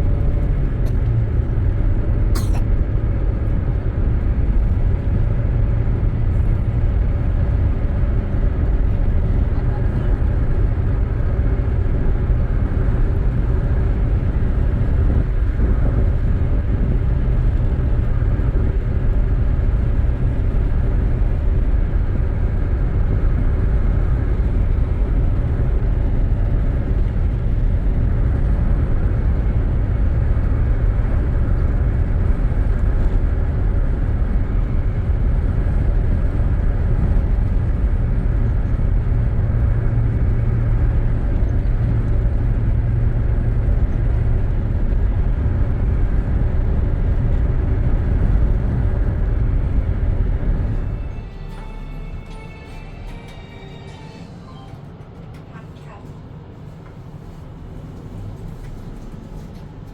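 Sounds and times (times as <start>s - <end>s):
vehicle rumbling: 0.0s - 59.9s.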